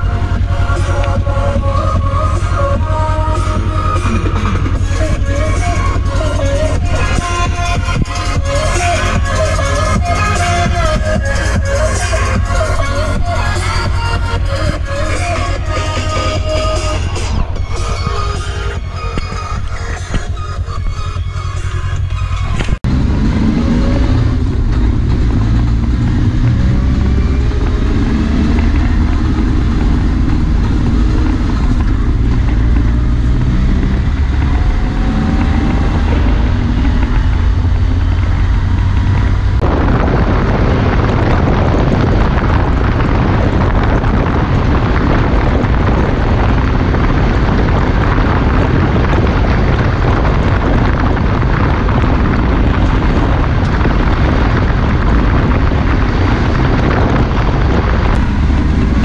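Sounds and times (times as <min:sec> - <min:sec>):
vehicle engine rumbling: 0:00.0 - 0:59.0
wind buffeting microphone: 0:00.0 - 0:59.0.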